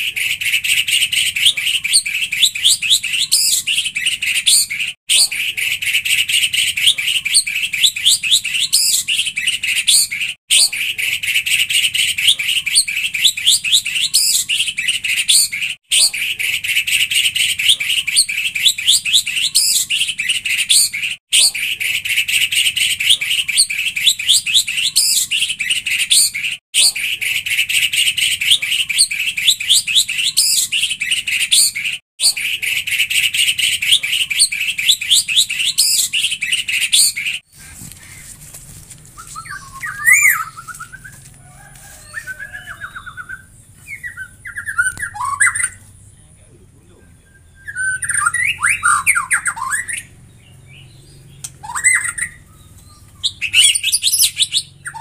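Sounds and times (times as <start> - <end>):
rapid bird chirping: 0.0 - 55.0.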